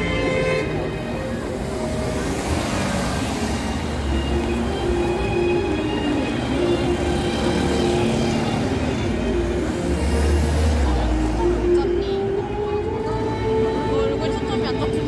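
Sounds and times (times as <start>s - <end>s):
cars and buses passing: 0.0s - 15.0s.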